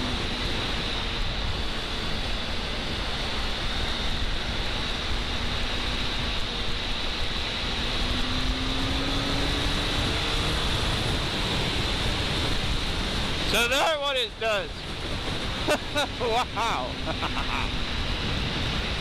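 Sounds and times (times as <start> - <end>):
motorcycle engine drone: 0.0 - 19.0
wind rushing over microphone: 0.0 - 19.0.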